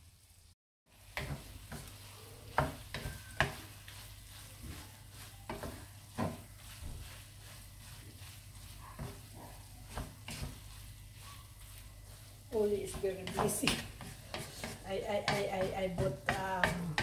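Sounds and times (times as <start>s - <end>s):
paste frying and sizzling: 0.0s - 17.0s
wooden spatula scraping a pan: 0.9s - 17.0s.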